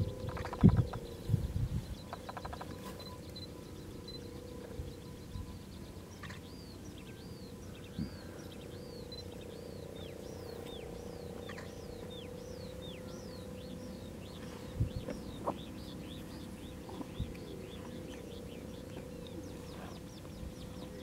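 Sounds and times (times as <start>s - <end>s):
bird calling: 0.0s - 21.0s
faint hum and low rumble: 0.0s - 21.0s.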